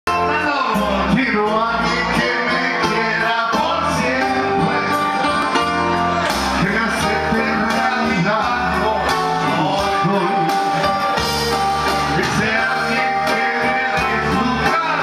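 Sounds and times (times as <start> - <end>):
amplified guitar and bass music: 0.1 - 15.0
men singing into microphones: 0.1 - 15.0.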